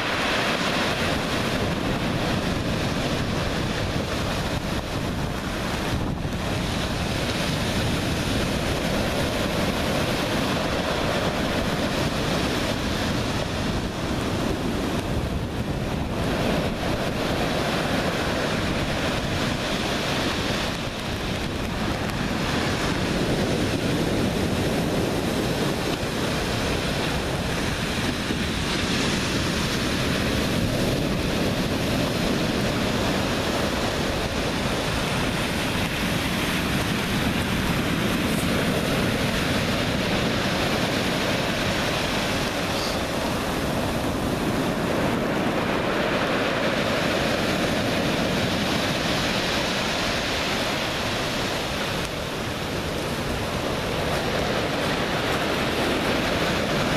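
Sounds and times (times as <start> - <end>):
surf breaking on pebble shore: 0.0 - 56.9
wind buffeting microphone: 0.0 - 56.9.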